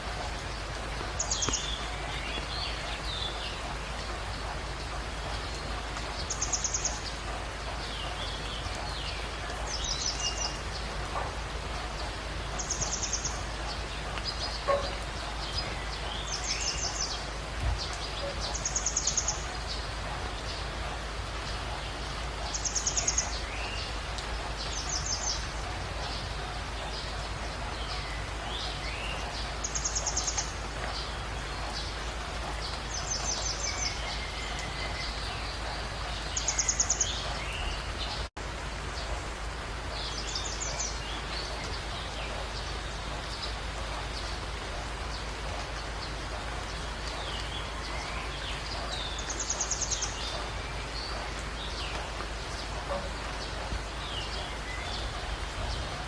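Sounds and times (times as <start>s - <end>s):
outdoor ambient hiss: 0.0s - 56.0s.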